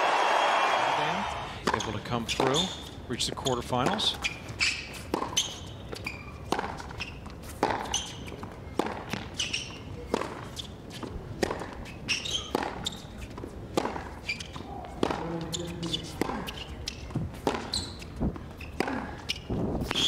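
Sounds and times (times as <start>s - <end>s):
racket striking tennis ball: 1.6s - 2.7s, 3.3s - 20.0s
shoes squeaking on court: 1.6s - 20.0s
tennis ball bouncing: 1.6s - 20.0s.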